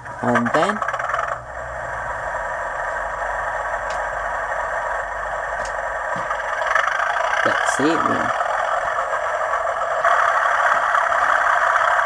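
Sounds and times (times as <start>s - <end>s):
diesel locomotive engine on small speaker: 0.0s - 12.0s.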